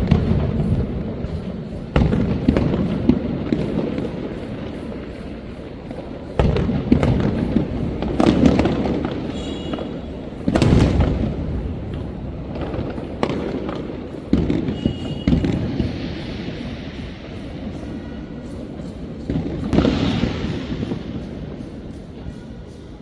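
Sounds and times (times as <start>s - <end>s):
fireworks bangs: 0.0s - 22.9s.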